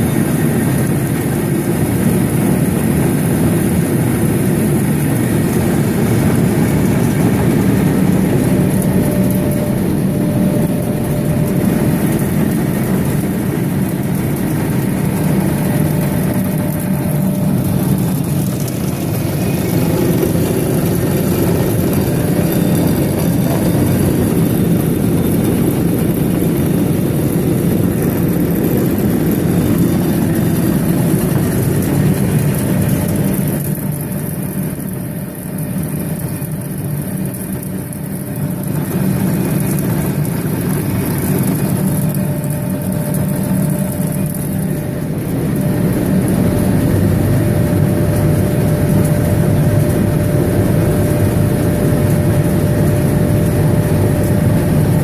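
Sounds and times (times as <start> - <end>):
faint steady whine: 0.0 - 55.0
mill machinery droning: 0.0 - 55.0.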